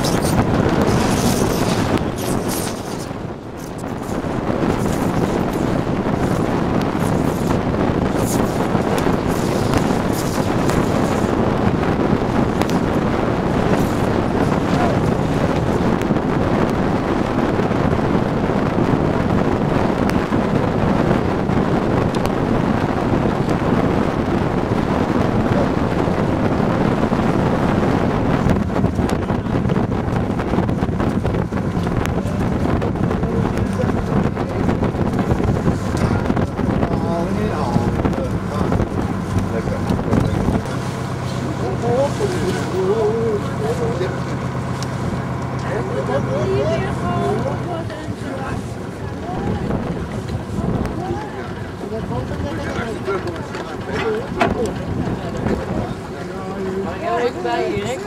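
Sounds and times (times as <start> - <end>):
wind buffeting the microphone: 0.0 - 58.0.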